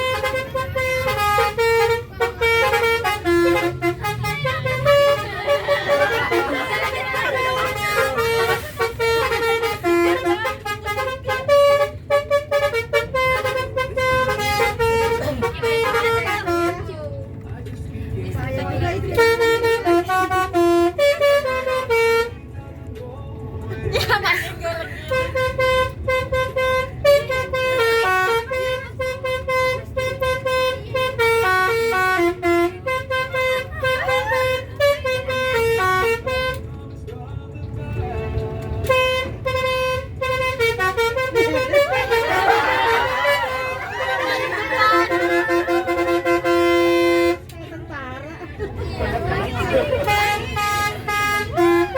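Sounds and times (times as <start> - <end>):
multi-tone bus horn melody: 0.0 - 51.9.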